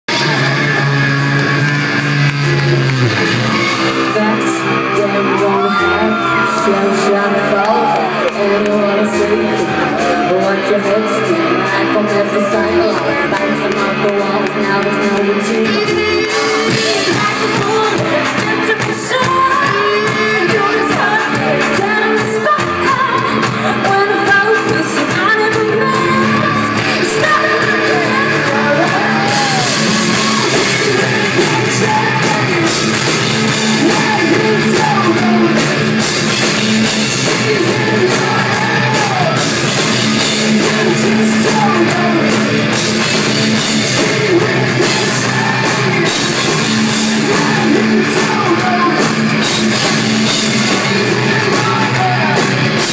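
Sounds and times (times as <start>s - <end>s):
live rock band playing: 0.1s - 52.9s.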